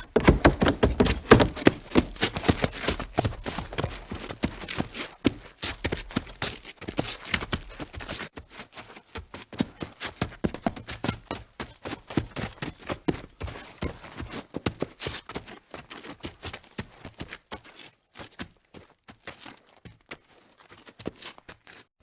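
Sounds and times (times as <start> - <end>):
fast running footsteps: 0.0 - 19.5.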